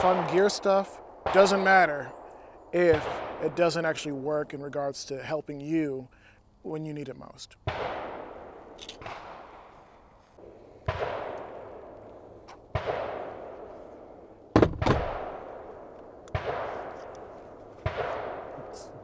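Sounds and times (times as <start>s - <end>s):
gunshots with long echo: 0.0s - 4.6s, 7.6s - 19.0s.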